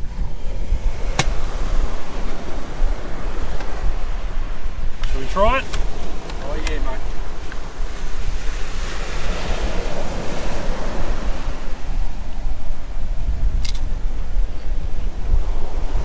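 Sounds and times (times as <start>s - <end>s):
surf breaking on beach: 0.0s - 13.4s
wind buffeting microphone: 0.0s - 16.0s.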